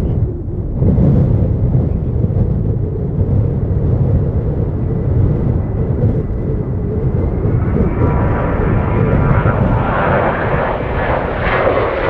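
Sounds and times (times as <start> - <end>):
jet engines whining: 0.0 - 12.0
wind buffeting microphone: 0.0 - 12.0.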